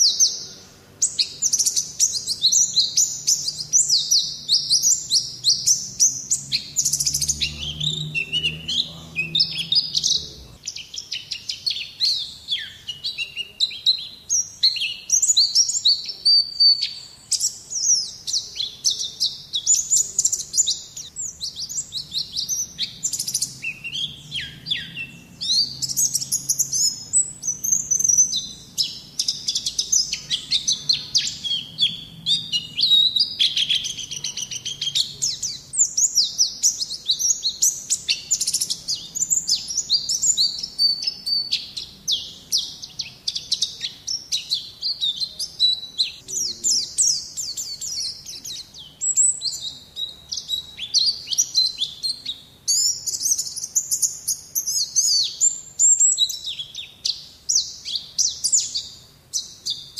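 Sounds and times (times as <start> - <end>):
bird twittering song: 0.0 - 59.9.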